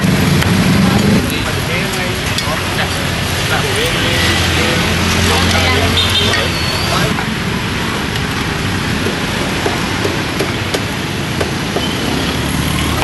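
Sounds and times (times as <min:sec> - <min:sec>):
traffic running past: 0:00.0 - 0:13.0.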